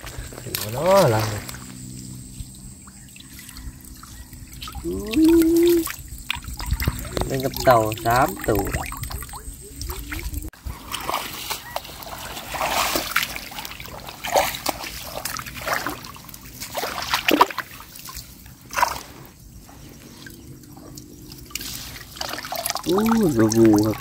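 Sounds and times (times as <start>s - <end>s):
water splashing and trickling: 0.0s - 24.0s.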